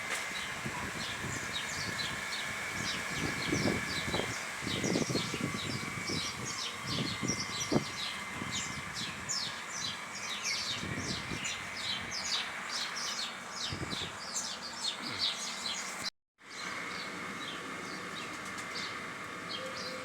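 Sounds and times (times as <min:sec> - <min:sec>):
small birds chirping: 0:00.2 - 0:20.0.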